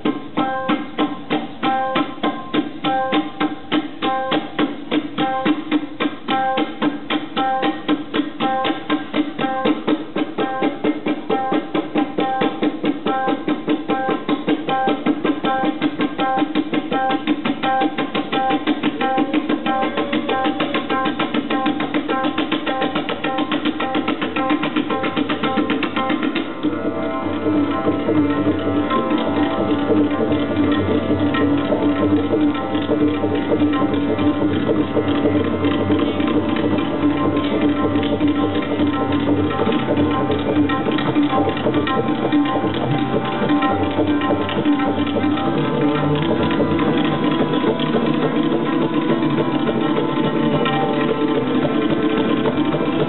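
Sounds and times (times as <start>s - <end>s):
tabla drumming: 0.0s - 53.0s.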